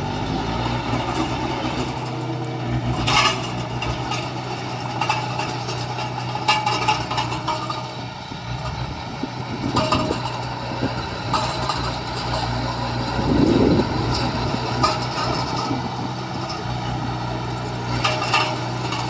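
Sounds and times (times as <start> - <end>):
diesel construction machine running: 0.0 - 19.0
metallic clanks: 0.2 - 19.0.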